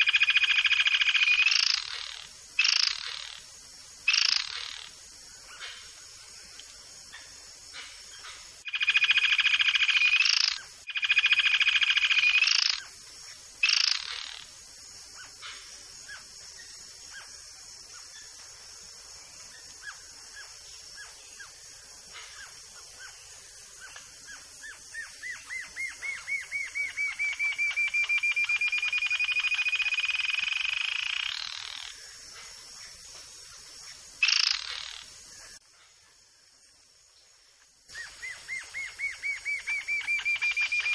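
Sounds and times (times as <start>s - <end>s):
bird singing: 0.0s - 3.4s, 4.1s - 12.9s, 13.6s - 36.1s, 37.9s - 40.9s.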